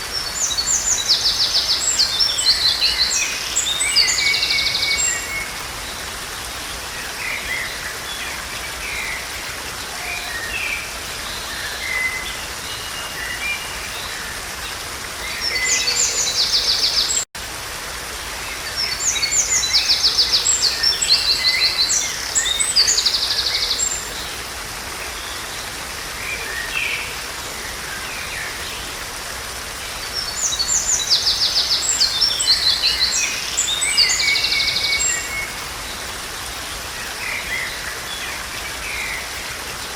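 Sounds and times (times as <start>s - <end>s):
songbirds singing with trills: 0.0s - 17.3s, 18.2s - 39.9s
forest stream rushing: 0.0s - 39.9s.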